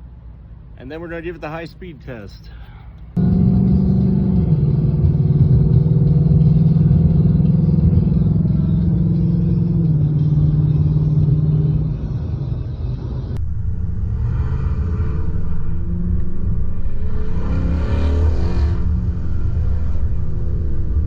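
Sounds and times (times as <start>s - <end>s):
car engine at speed: 3.2s - 21.0s.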